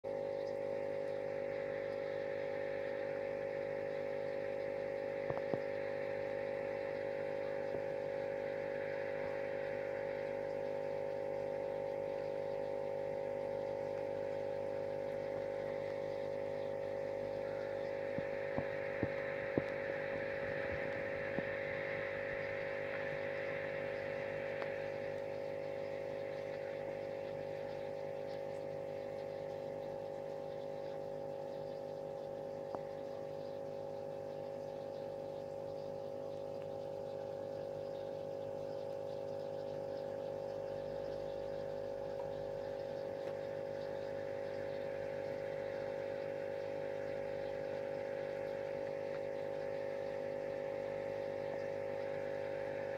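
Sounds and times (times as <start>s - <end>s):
aquarium pump humming: 0.0s - 52.9s.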